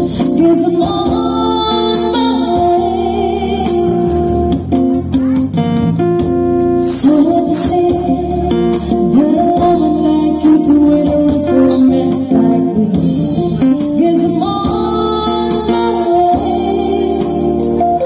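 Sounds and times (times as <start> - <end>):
woman singing into a microphone: 0.0 - 5.4, 6.6 - 18.0
live band music: 0.0 - 18.0.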